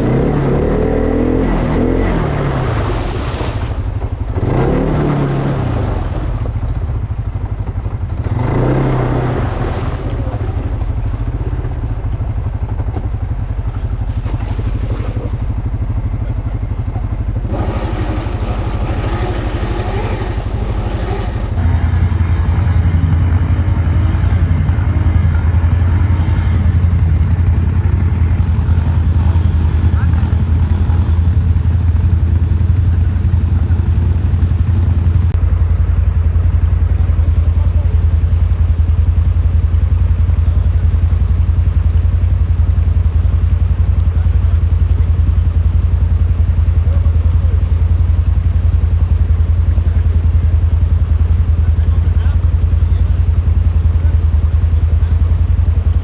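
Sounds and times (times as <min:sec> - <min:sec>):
atv engine revving: 0:00.0 - 0:06.4, 0:08.2 - 0:10.4, 0:17.4 - 0:56.0.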